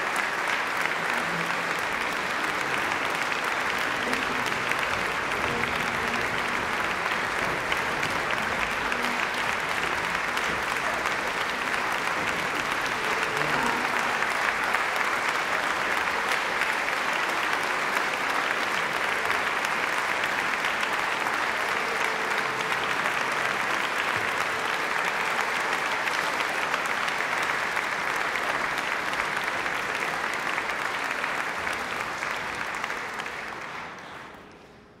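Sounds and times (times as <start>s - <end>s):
audience applauding: 0.0s - 35.0s.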